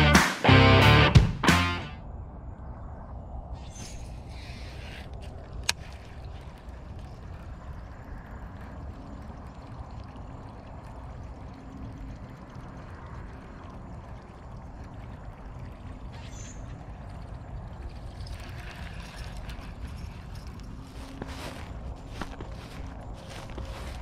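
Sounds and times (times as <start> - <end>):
low outdoor background rumble: 0.0 - 24.0.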